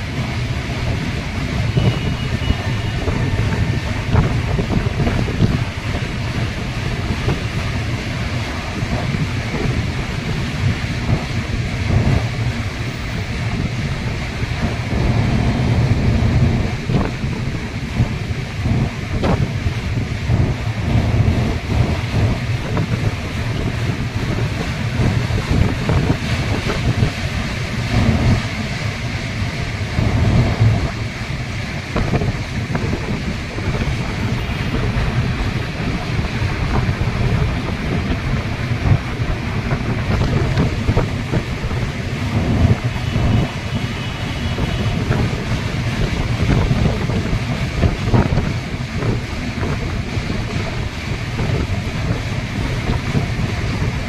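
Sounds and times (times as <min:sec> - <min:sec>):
train rumbling on bridge: 0:00.0 - 0:54.0
wind noise on microphone: 0:00.0 - 0:54.0.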